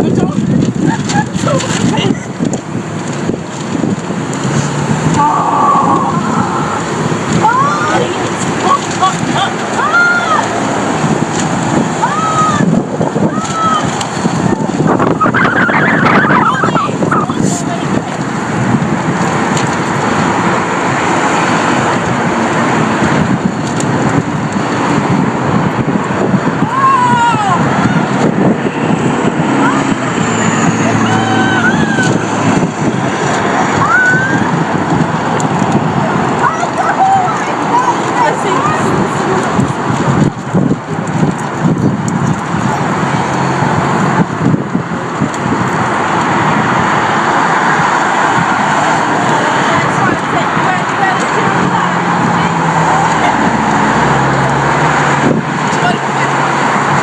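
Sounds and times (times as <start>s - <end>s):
cars driving past: 0.0s - 57.0s
road traffic rushing by: 0.0s - 57.0s
wind on microphone: 0.0s - 57.0s.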